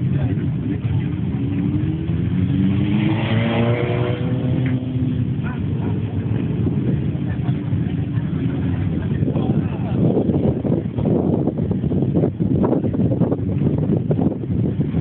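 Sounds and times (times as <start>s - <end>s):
motorcycle engine revving: 0.0s - 15.0s
motorcycle engines at low revs: 0.0s - 15.0s.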